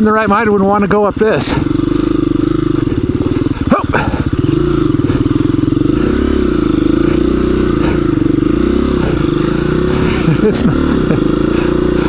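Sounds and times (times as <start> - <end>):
dirt bike engine under load: 0.0 - 12.0.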